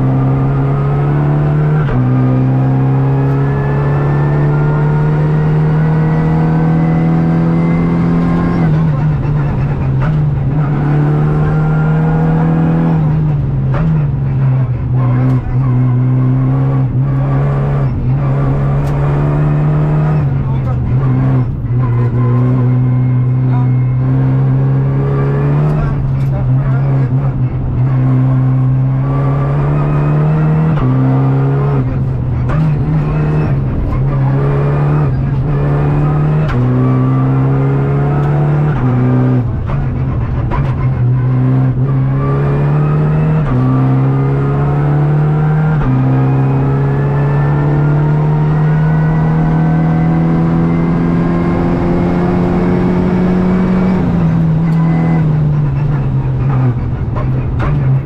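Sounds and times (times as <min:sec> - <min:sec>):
car engine revving through gears: 0:00.0 - 0:58.0
tyre and road noise: 0:04.8 - 0:58.0.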